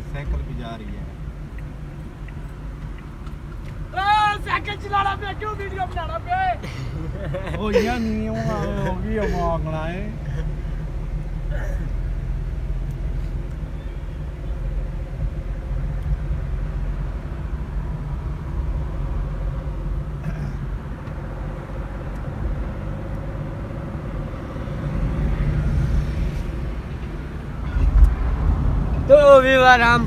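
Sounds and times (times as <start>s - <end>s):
engine and tyre rumble: 0.0s - 30.0s.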